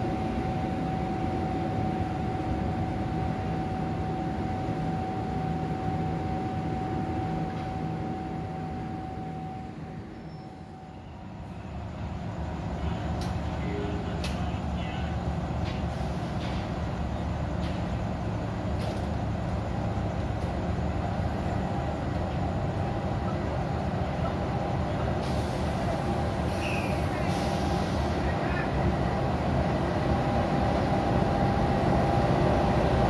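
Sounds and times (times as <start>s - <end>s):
diesel locomotive engine rumble: 0.0s - 33.0s.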